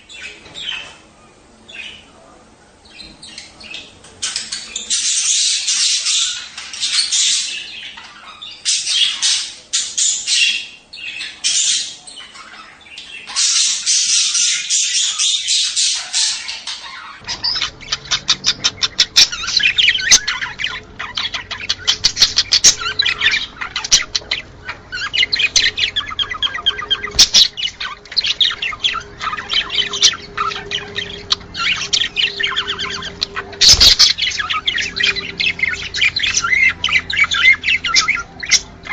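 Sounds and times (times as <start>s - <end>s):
budgerigars chattering: 0.0s - 38.9s
faint steady hum: 0.0s - 38.9s.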